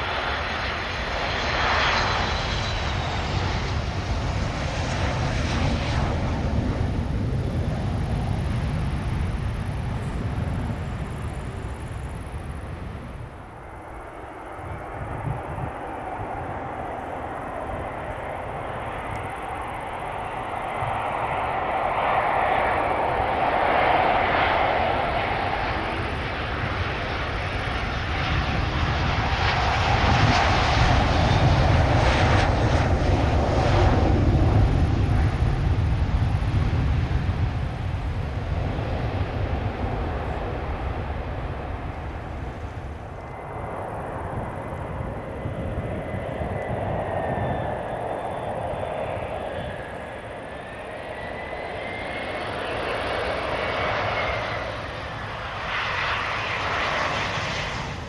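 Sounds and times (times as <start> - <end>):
jet engines whine and rumble: 0.0 - 58.0
regional jet on approach: 0.0 - 58.0.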